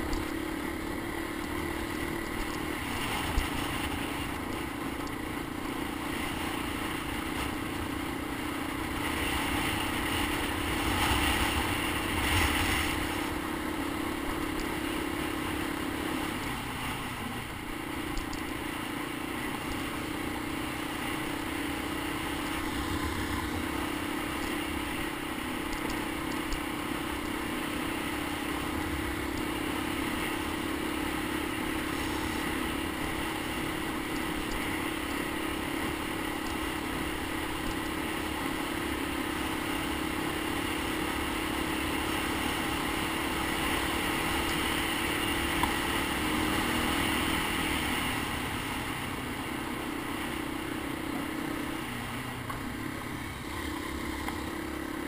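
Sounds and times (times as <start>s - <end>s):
single-cylinder engine running: 0.0s - 55.0s.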